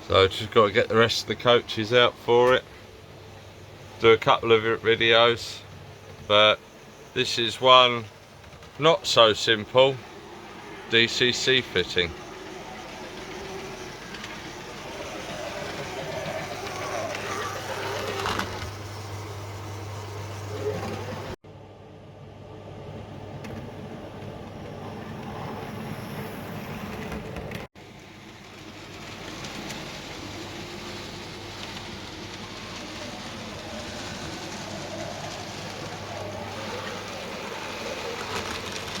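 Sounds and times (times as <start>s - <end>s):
model train running on track: 0.0s - 21.4s, 24.2s - 39.0s.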